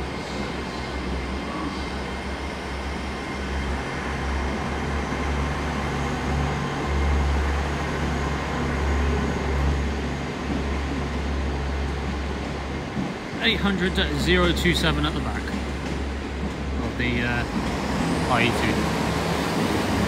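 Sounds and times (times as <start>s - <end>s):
diesel train engines rumbling: 0.0s - 20.0s.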